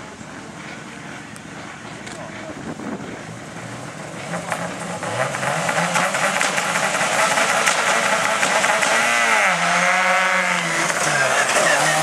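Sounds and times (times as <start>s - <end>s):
rally car engine at speed: 0.0s - 12.0s
rapid exhaust crackle: 0.0s - 12.0s.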